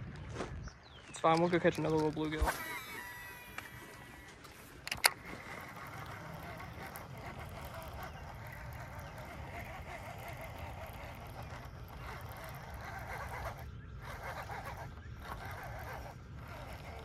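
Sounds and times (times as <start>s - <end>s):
fishing reel whirring: 1.2s - 17.0s.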